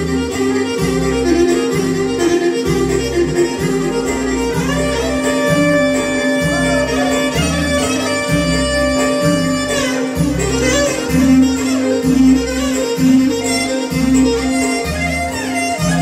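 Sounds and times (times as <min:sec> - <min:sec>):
clarinet long note: 0:00.0 - 0:16.0
folk band playing dance tune: 0:00.0 - 0:16.0
pulsing bass beat: 0:00.0 - 0:16.0.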